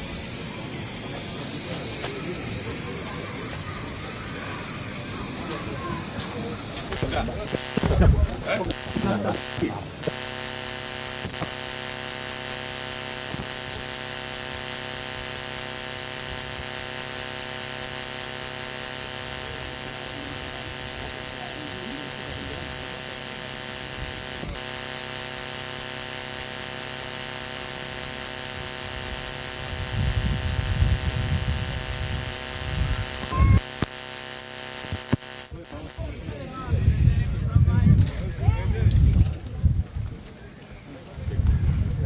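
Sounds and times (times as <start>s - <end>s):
electrical buzzing hum: 0.0s - 37.6s.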